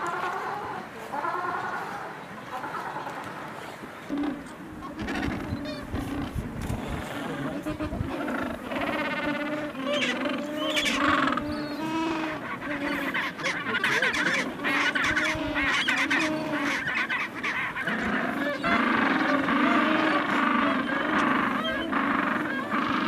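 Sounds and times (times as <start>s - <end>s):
penguins calling: 4.0s - 23.0s.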